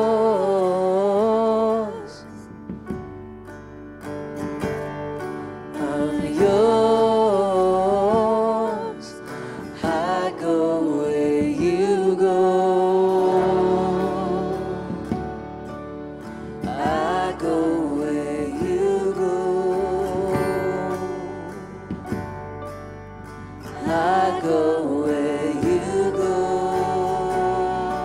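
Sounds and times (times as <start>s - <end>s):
acoustic guitar: 0.0s - 28.0s
worship band playing: 0.0s - 28.0s.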